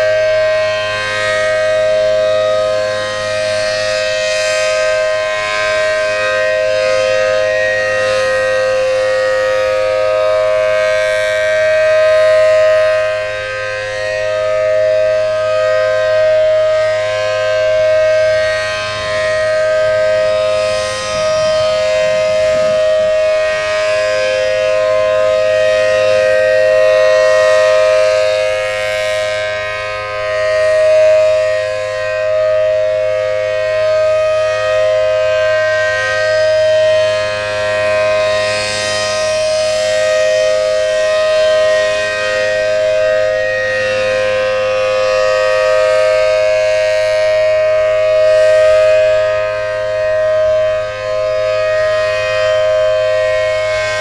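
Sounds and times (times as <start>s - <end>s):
warning siren two steady tones: 0.0s - 54.0s.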